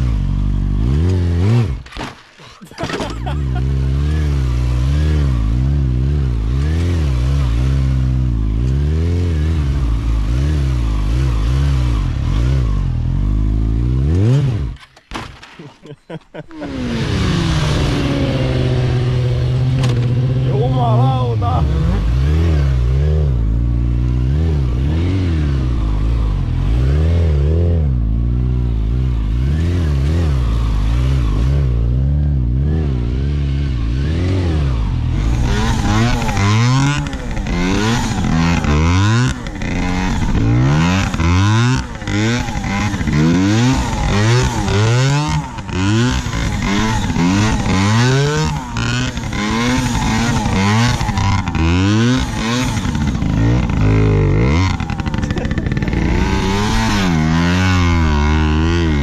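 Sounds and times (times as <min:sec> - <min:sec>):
motorcycle engine revving: 0:00.0 - 0:02.2, 0:02.8 - 0:15.0, 0:16.3 - 0:59.0.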